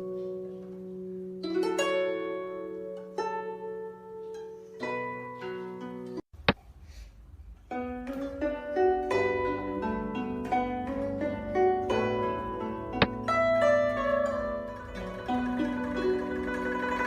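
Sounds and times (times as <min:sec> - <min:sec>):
plucked string music: 0:00.0 - 0:06.2, 0:07.6 - 0:17.0.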